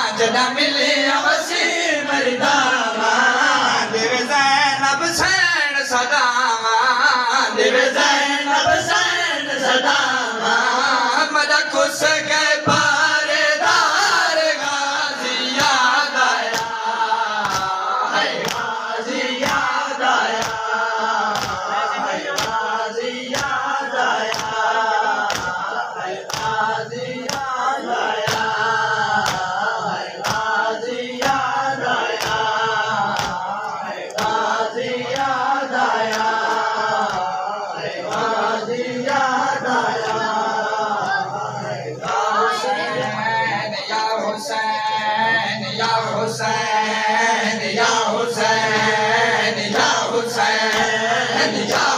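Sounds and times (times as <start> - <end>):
men chanting in chorus: 0.0 - 51.9.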